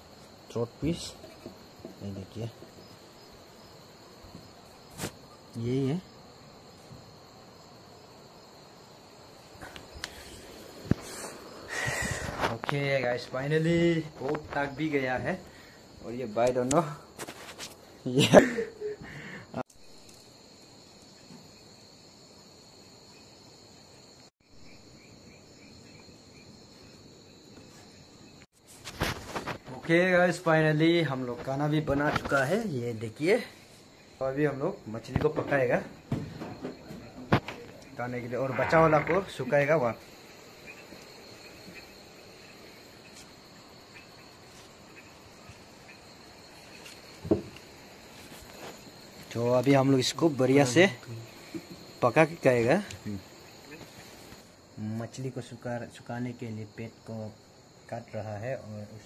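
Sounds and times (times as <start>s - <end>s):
crickets chirring: 0.0s - 59.0s
insect high-pitched trill: 0.0s - 59.0s.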